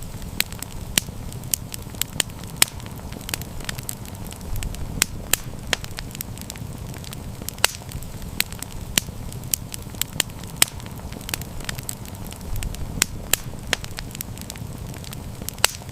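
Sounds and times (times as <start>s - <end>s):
campfire crackling and popping: 0.0s - 15.9s.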